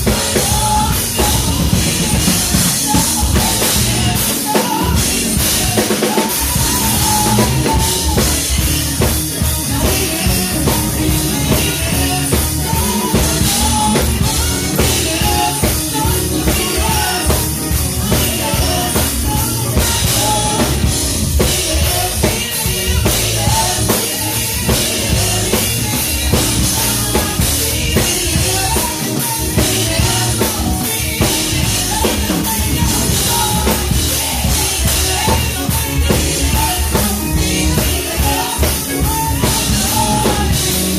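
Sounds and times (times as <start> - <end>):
bass line: 0.0 - 40.9
drum kit beat: 0.0 - 40.9
live gospel band music: 0.0 - 40.9.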